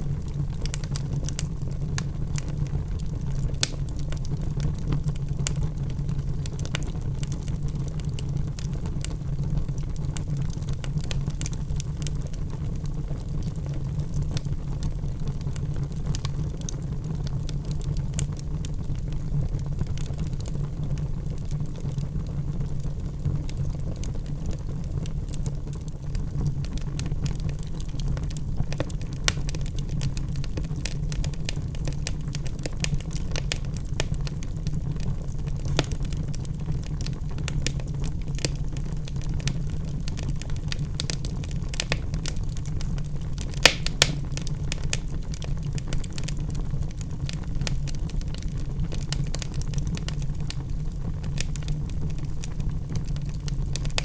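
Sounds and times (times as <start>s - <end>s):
fire crackles and pops: 0.0s - 54.0s
flames rumbling: 0.0s - 54.0s.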